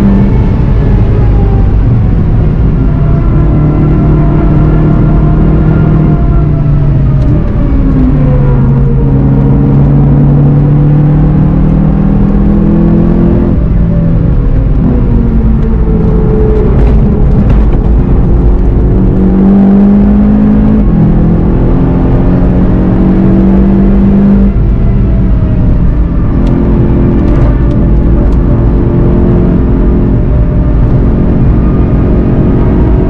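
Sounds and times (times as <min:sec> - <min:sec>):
car engine accelerating: 0:00.0 - 0:33.0
wind noise: 0:00.0 - 0:33.0.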